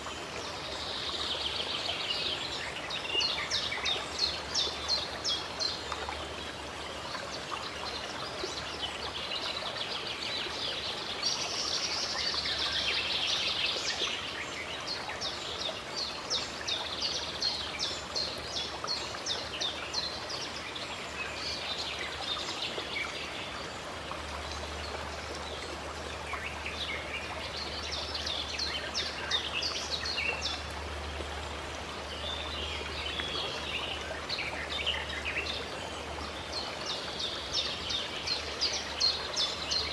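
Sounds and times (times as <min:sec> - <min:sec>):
songbirds chirping: 0:00.0 - 0:39.9
water trickling: 0:00.0 - 0:39.9.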